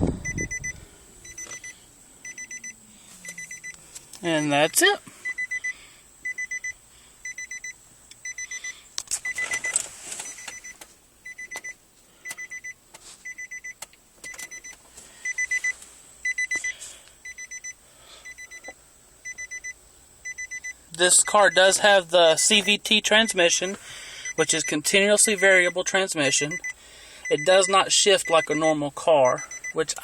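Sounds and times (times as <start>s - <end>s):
car warning chime beeping: 0.0s - 30.0s.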